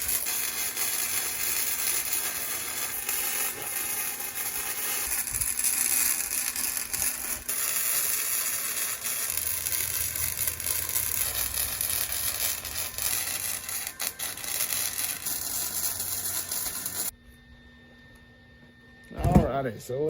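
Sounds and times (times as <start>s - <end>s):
sharp welding pops: 0.0s - 17.1s
arc welder crackling sizzle: 0.0s - 17.2s.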